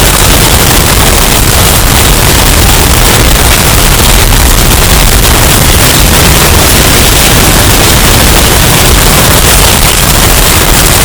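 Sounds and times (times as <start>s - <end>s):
distorted hurricane wind roar: 0.0s - 11.0s.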